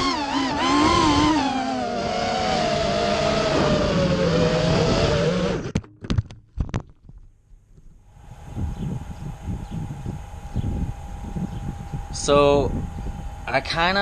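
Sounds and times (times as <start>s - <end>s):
quadcopter motors whining: 0.0s - 5.7s, 8.2s - 14.0s.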